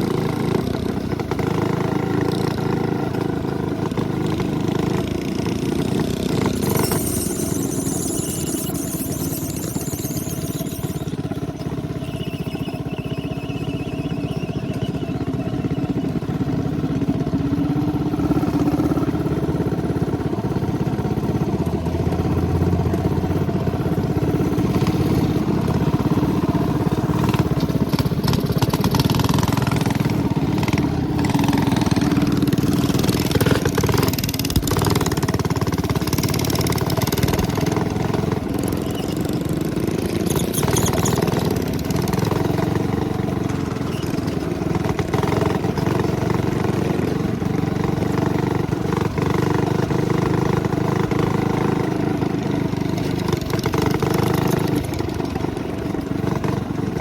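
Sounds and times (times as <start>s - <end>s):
minibike engine running: 0.0s - 57.0s.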